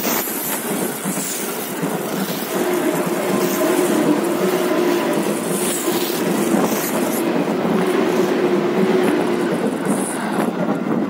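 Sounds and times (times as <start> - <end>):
train hum: 0.0 - 11.0
train wheels rumbling over rails: 0.0 - 11.0.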